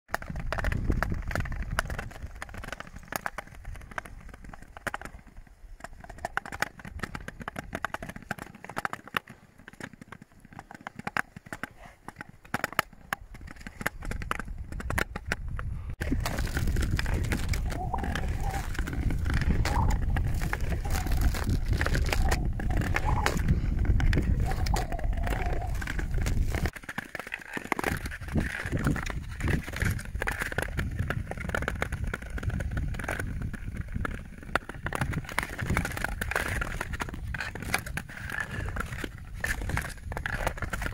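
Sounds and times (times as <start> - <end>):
ice clicking and crackling: 0.1 - 40.9
ice skates scraping on ice: 0.1 - 40.9.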